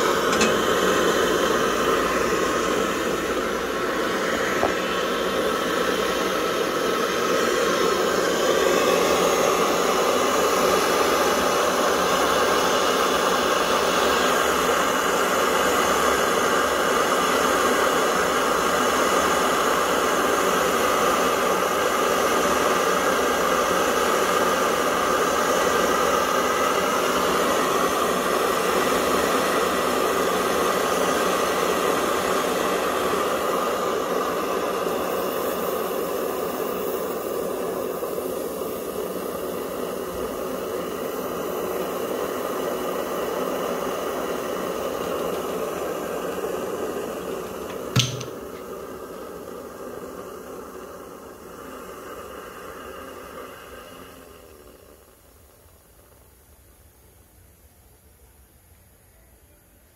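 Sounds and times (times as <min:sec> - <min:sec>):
stove burner flame hissing: 0:00.0 - 0:59.1.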